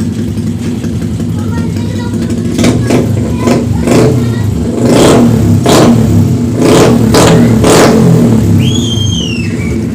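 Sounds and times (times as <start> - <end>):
motorcycle engine idling and revving: 0.0 - 9.9.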